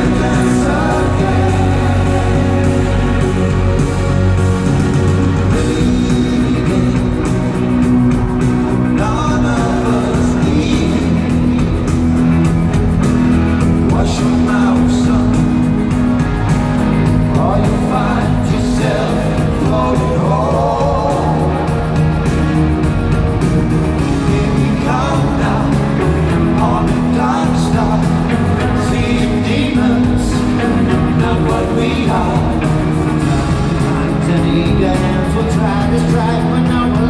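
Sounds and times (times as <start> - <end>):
man singing: 0.0 - 4.3, 5.3 - 12.3, 13.7 - 22.4, 24.0 - 37.0
live pop band playing: 0.0 - 37.0.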